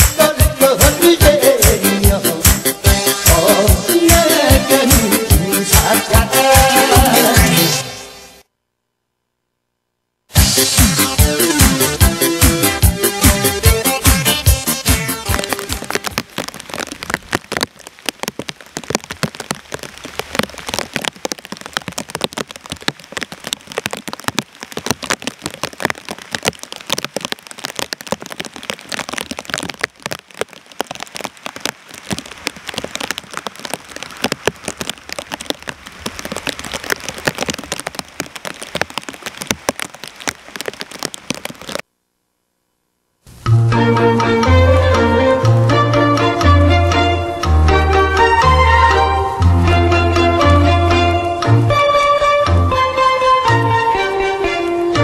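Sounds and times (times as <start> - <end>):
rain pattering: 0.0 - 8.2, 10.3 - 42.4, 43.2 - 55.0.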